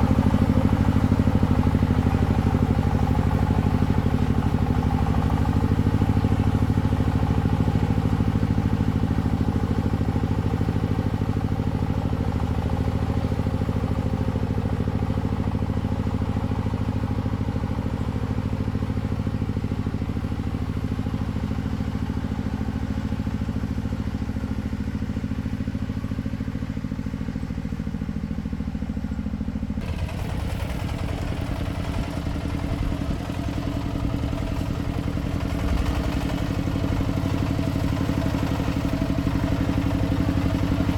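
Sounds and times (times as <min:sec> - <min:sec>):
farm vehicle engine running: 0:00.0 - 0:40.9.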